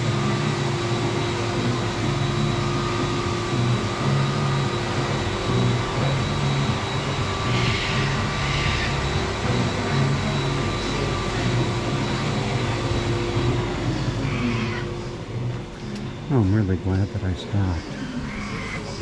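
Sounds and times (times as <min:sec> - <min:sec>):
ventilation machinery hum: 0:00.0 - 0:19.0.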